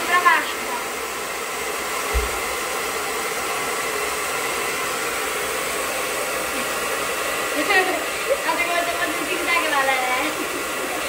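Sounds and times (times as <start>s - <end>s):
hair dryer blowing: 0.0s - 11.0s.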